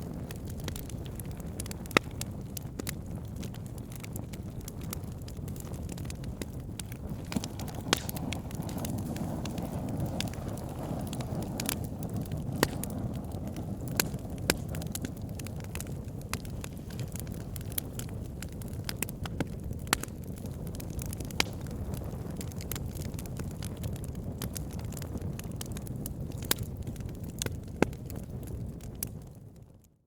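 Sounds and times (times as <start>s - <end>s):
low rush of flame: 0.0s - 29.9s
logs crackling and popping: 0.0s - 30.0s.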